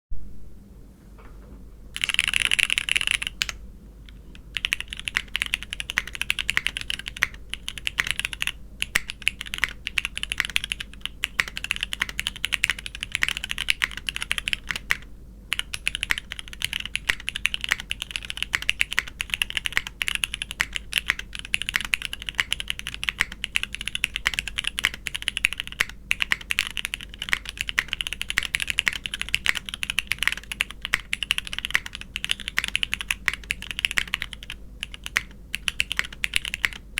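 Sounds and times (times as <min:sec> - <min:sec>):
mechanical keyboard typing: 0:02.0 - 0:36.9.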